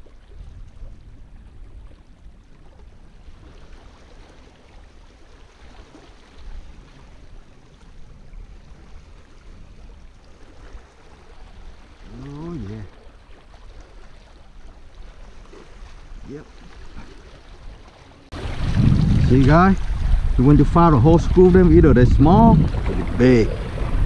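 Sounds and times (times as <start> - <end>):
wind buffeting microphone: 0.0 - 24.0
waves lapping on rocky shore: 2.9 - 24.0.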